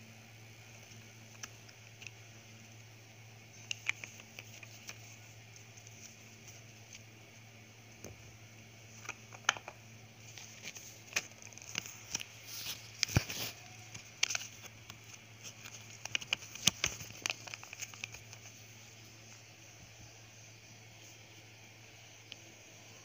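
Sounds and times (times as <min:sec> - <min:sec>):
steady low hum: 0:00.0 - 0:23.0
small objects on tabletop: 0:00.6 - 0:23.0.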